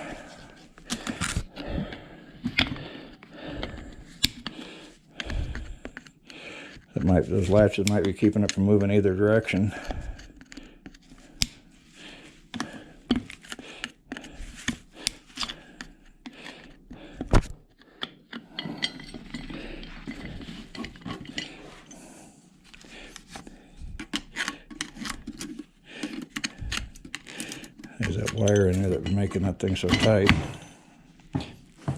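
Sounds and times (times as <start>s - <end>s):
hand tools clicking and scraping: 0.0s - 22.1s, 22.7s - 30.8s.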